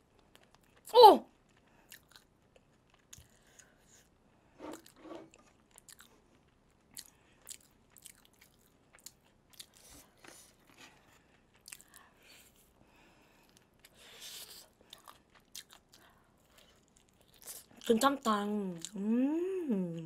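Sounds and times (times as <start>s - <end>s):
crunching and chewing fried food: 0.0s - 19.0s.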